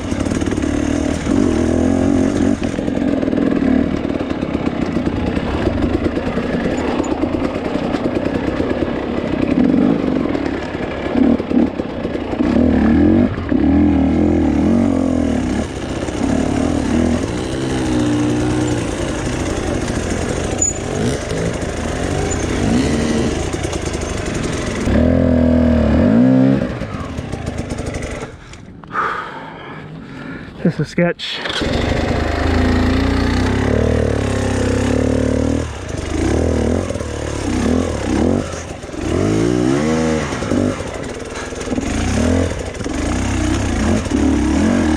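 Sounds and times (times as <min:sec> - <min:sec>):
dirt bike engine revving: 0:00.0 - 0:28.5, 0:31.4 - 0:44.9.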